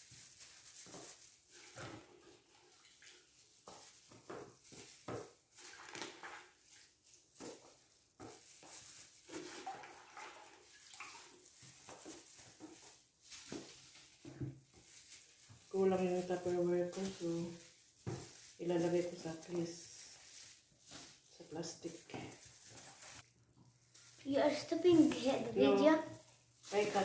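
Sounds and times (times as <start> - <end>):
plastic gloves rustling: 0.0 - 27.0.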